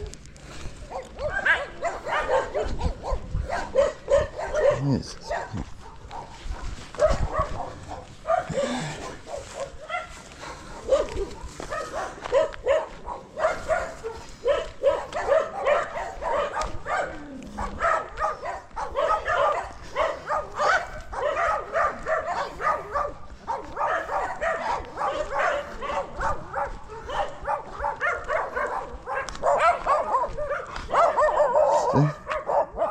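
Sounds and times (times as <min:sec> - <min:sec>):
dogs barking: 0:00.0 - 0:32.9.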